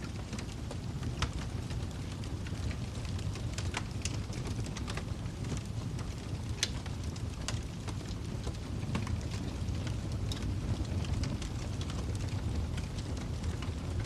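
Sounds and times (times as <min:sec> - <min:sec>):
fire popping and snapping: 0:00.0 - 0:14.0
low rumble of burning: 0:00.0 - 0:14.0
wood fire crackling: 0:00.0 - 0:14.0.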